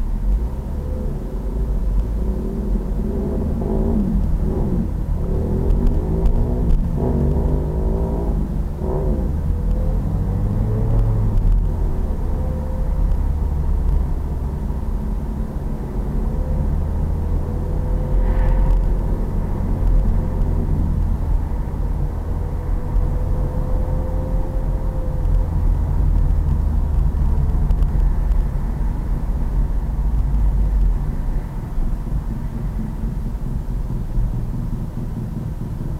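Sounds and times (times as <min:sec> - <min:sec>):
heavy low rumble: 0:00.0 - 0:35.9.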